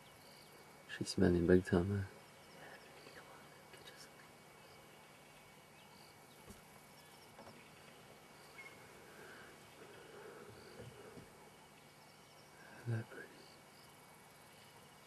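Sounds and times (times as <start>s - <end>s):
high insect or bird chirps: 0.0s - 15.0s.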